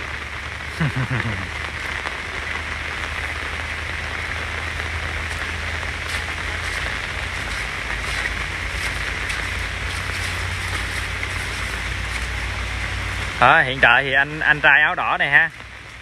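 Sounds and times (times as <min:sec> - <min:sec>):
heavy rain hiss: 0:00.0 - 0:16.0.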